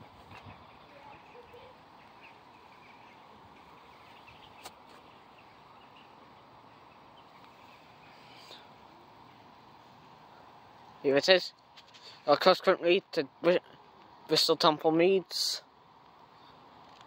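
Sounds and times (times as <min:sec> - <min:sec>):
small birds chirping faintly: 0:00.0 - 0:17.0.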